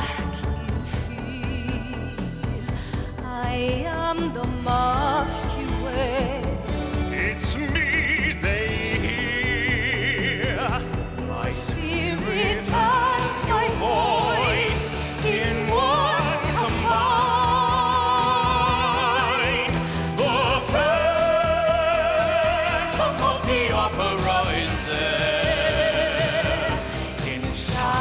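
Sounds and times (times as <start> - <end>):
musical accompaniment: 0.0 - 28.0
soprano singing with vibrato: 0.0 - 28.0.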